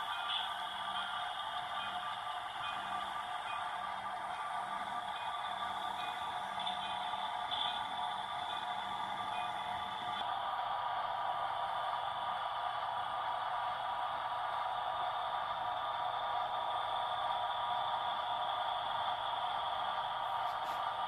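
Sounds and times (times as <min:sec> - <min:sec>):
model train whirring: 0:00.0 - 0:21.0.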